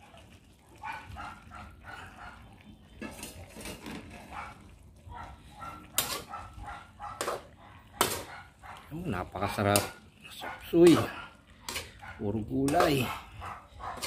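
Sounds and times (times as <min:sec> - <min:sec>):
dog barking: 0:00.0 - 0:02.6, 0:04.2 - 0:14.0.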